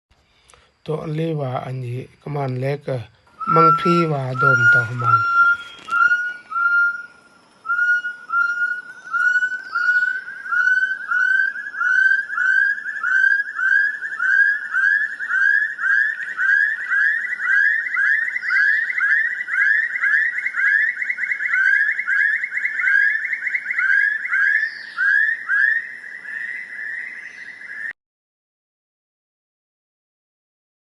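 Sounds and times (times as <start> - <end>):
bird calling in whistled notes: 0.3 - 28.0.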